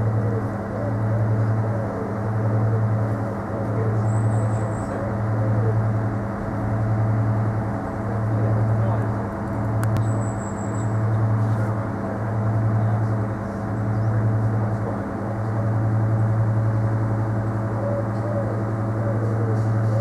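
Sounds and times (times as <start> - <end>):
low droning charging hum: 0.0 - 20.0.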